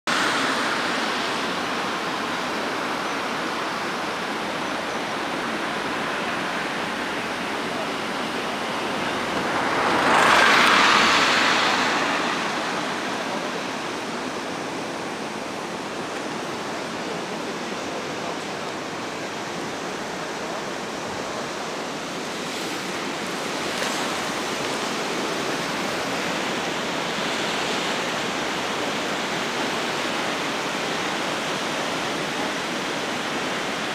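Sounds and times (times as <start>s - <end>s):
floodwater rushing under a bridge: 0.0s - 33.9s.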